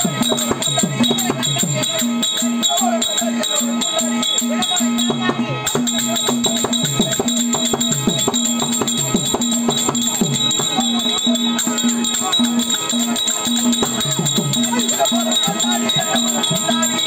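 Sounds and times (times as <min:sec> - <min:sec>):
harmonium note: 0:00.0 - 0:17.0
jingling metal rhythm: 0:00.0 - 0:17.0.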